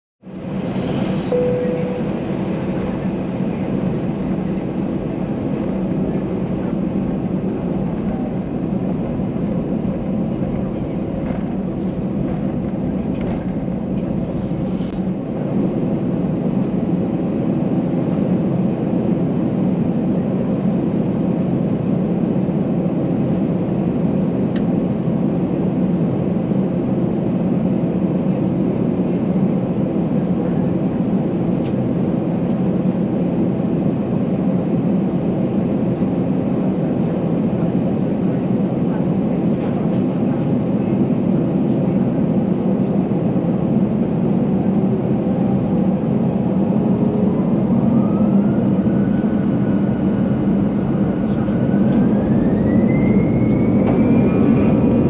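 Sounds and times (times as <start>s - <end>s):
jet engines humming in cabin: 0.2s - 55.0s.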